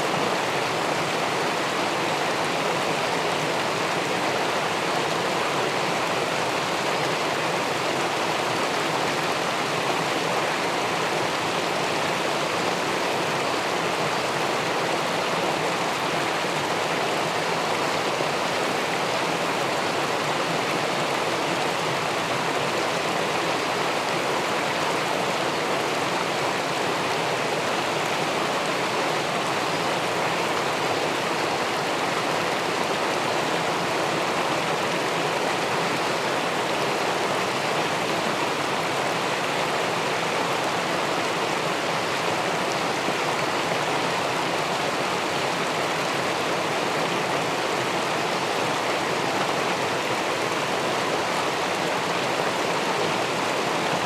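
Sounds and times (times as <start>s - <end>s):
river water rushing over weir: 0.0s - 54.0s.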